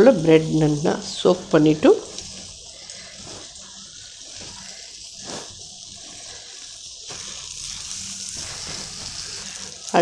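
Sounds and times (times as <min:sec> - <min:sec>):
butter sizzling in a frying pan: 0:00.0 - 0:10.0.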